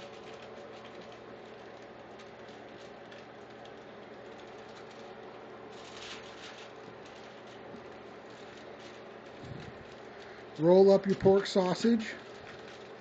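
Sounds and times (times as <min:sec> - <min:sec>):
aluminum foil crinkling: 0:00.0 - 0:13.0
steady background hum: 0:00.0 - 0:13.0.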